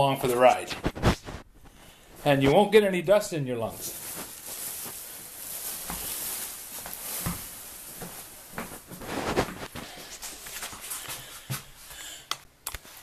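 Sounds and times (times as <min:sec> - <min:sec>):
rustling handling noise: 0:00.0 - 0:11.9.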